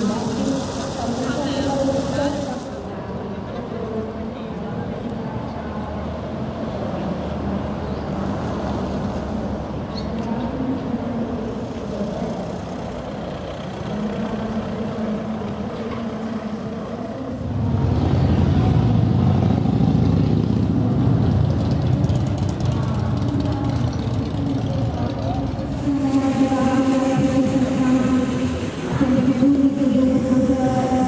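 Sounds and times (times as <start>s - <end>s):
street ambience: 0.0s - 31.0s
vehicle engine rumble: 0.0s - 31.0s.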